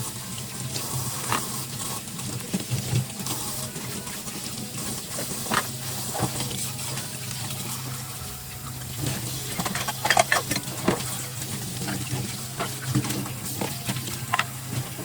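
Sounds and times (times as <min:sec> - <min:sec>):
water running in a sink: 0:00.0 - 0:15.0.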